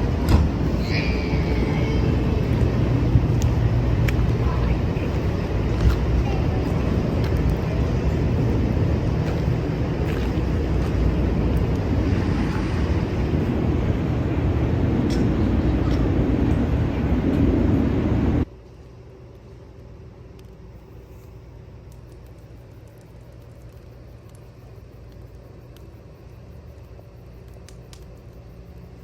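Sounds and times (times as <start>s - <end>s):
loud steady rumbling: 0.0s - 29.0s.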